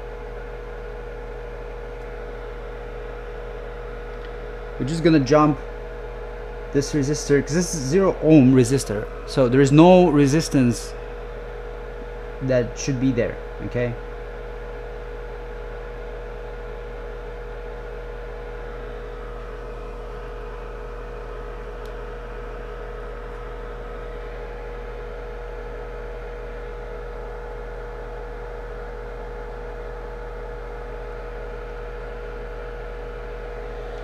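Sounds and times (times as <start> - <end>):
electrical hum with hiss: 0.0 - 34.0.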